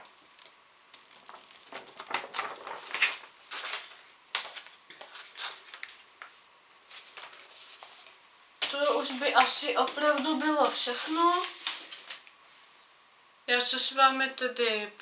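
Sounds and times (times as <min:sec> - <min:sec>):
paper crinkling and rustling: 0:00.0 - 0:12.3.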